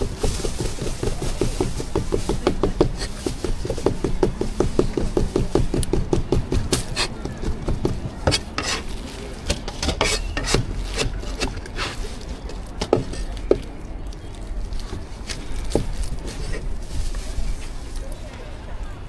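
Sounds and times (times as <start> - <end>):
utensils scraping a bowl: 0.0 - 17.1.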